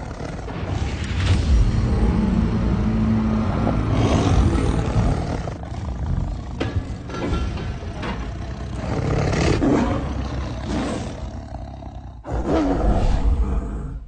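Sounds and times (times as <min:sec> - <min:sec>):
deep roaring rumble: 0:00.0 - 0:14.0.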